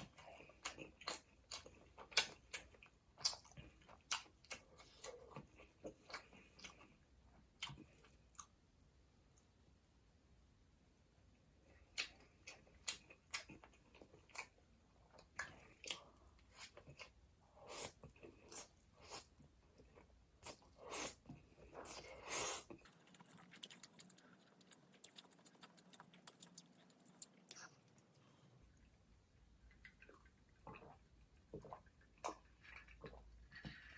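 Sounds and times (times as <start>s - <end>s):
person chewing with mouth sounds: 0.0s - 8.5s, 11.7s - 33.9s.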